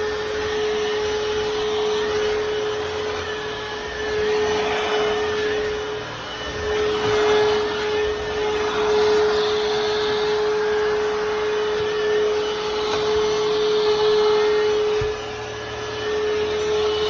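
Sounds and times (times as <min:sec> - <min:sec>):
stick vacuum running: 0:00.0 - 0:17.0.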